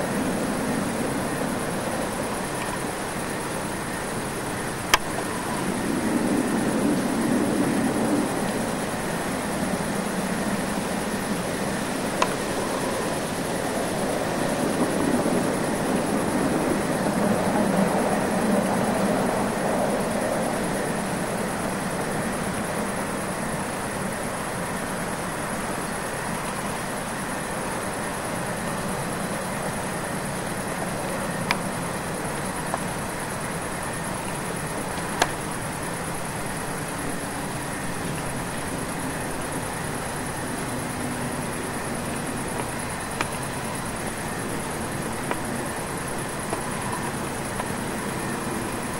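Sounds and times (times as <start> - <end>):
steady background noise: 0.0 - 48.9.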